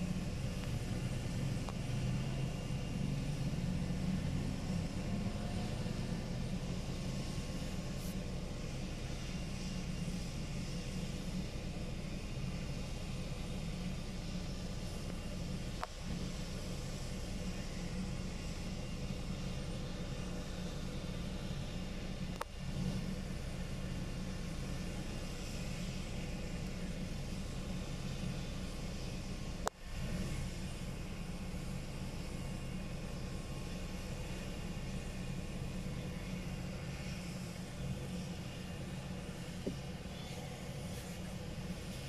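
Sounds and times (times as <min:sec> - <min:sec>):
helicopter rotor idling: 0:00.0 - 0:42.0.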